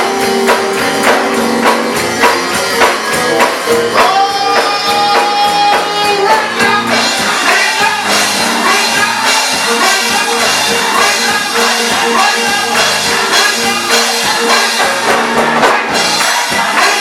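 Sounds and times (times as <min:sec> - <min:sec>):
live gospel music: 0:00.0 - 0:17.0
tambourine beat: 0:00.0 - 0:17.0.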